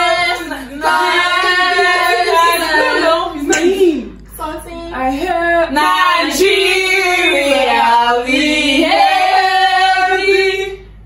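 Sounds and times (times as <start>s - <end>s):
woman singing unaccompanied: 0.0s - 10.8s.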